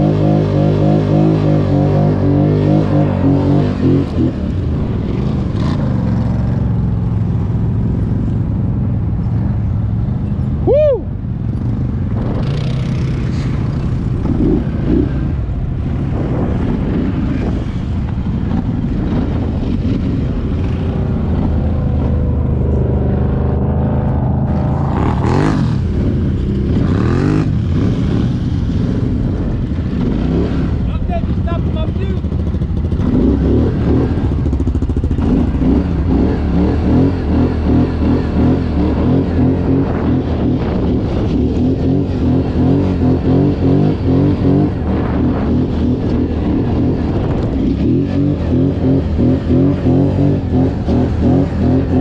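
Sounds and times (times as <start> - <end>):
atv engine revving: 0.0 - 8.5, 11.4 - 52.0.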